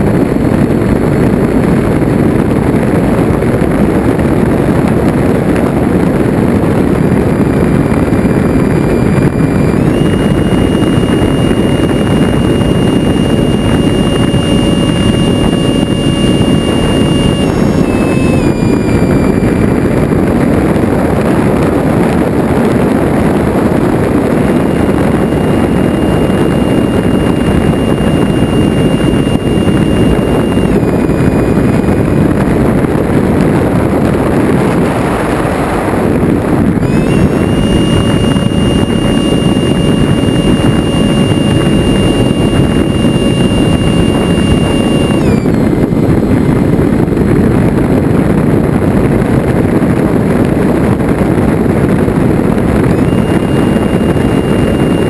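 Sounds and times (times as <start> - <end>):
ducted fan whine: 0.0 - 55.0
wind rush over microphone: 0.0 - 55.0.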